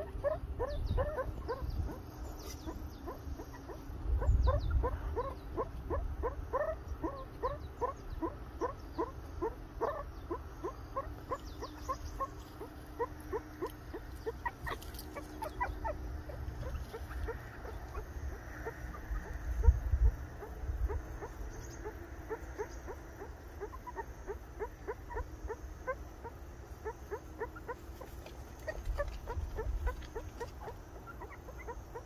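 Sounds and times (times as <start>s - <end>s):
meerkat alarm calls: 0.0s - 32.0s.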